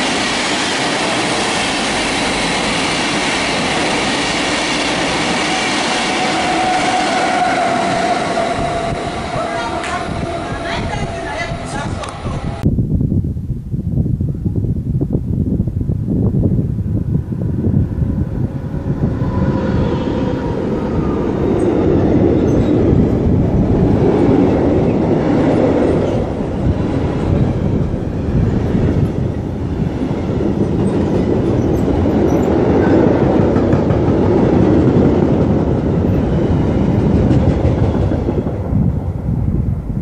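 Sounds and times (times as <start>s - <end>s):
freight train rumbling past: 0.0s - 13.2s, 15.0s - 40.0s
wheels rumbling on rails: 0.0s - 13.3s, 13.9s - 40.0s.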